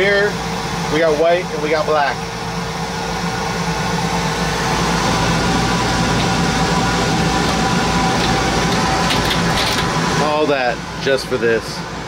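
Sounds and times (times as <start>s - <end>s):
laser cutter hum: 0.0s - 12.0s.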